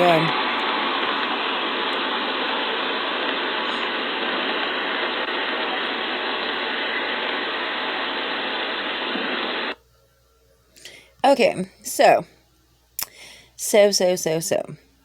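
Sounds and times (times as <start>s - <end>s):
steady microphone hiss: 0.0s - 15.0s.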